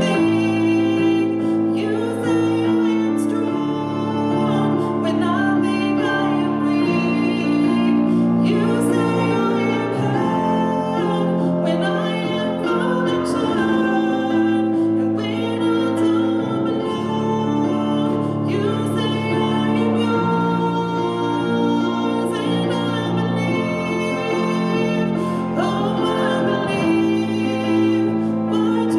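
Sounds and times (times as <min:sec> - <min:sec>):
keyboard accompaniment: 0:00.0 - 0:28.9
woman singing slow song: 0:00.0 - 0:28.9.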